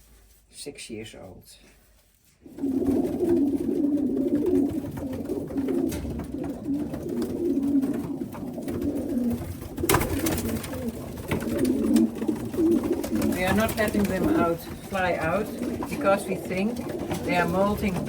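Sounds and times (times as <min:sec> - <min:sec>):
pigeons cooing: 0:02.4 - 0:18.0.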